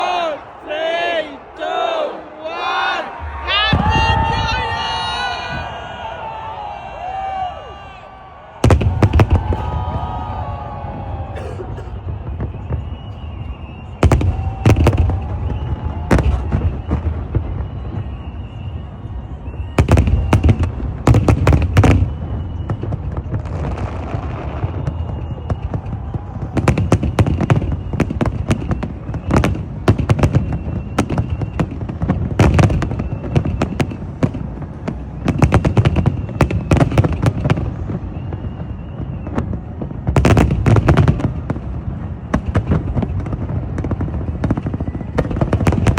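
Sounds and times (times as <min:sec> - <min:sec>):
fireworks bangs: 0:03.0 - 0:45.9.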